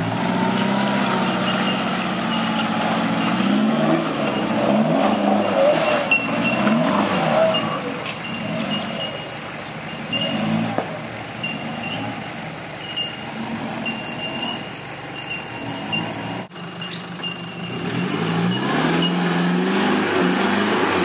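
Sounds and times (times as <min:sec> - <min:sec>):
diesel engine running at low revs: 0:00.0 - 0:21.0.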